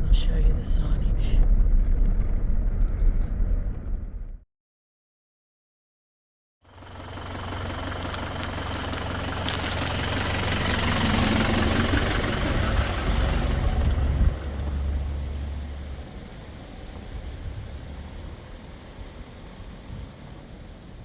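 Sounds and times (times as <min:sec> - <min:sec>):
vehicle engine rumbling: 0:00.0 - 0:04.4, 0:06.7 - 0:21.0.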